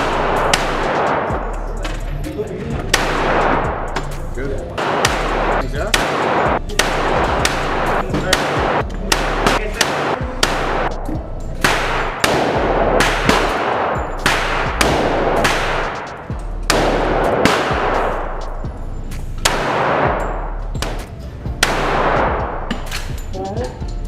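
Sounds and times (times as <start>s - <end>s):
gunshots with echo: 0.0s - 1.4s, 2.8s - 3.9s, 4.8s - 18.4s, 19.4s - 23.0s.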